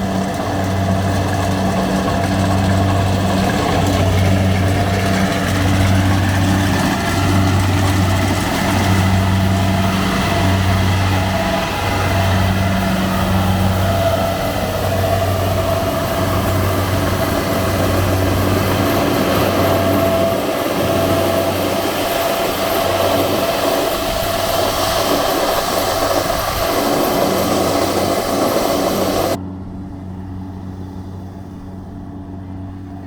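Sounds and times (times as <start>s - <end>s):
combine harvester running: 0.0s - 33.0s
thin held whine: 0.0s - 33.0s.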